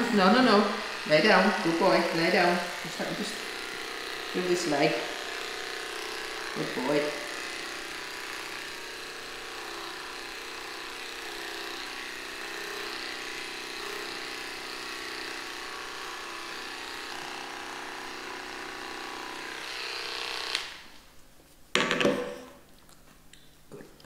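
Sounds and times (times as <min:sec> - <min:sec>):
electric clippers buzzing: 0:00.0 - 0:21.0.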